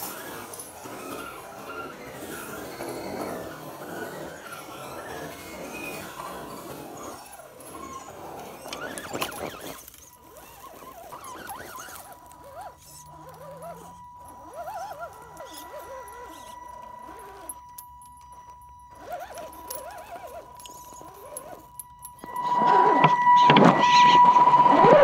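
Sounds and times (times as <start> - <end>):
electric motor whining: 0.0 - 25.0
motor and gears squealing: 0.0 - 25.0.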